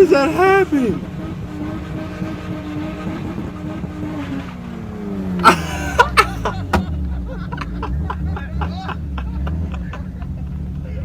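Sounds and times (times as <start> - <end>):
car engine revving down: 0.0 - 11.0.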